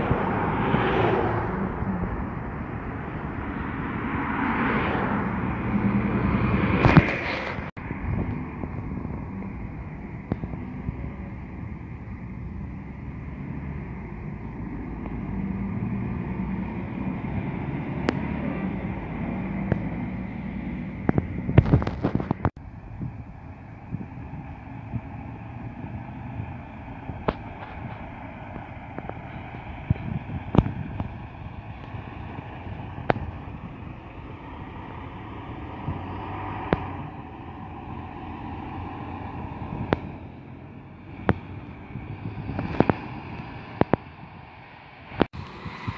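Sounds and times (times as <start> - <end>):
diesel bus engine passing: 0.0 - 45.9
wind noise on microphone: 0.0 - 45.9.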